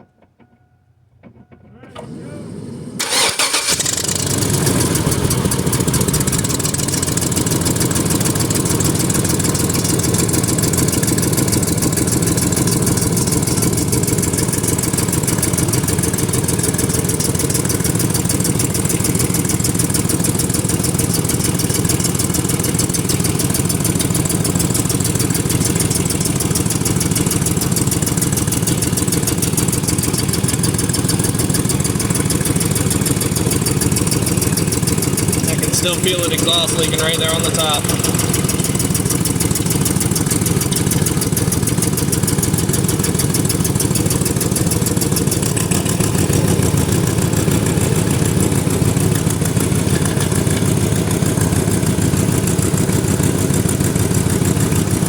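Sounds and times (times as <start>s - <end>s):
engine idling: 1.7s - 55.0s.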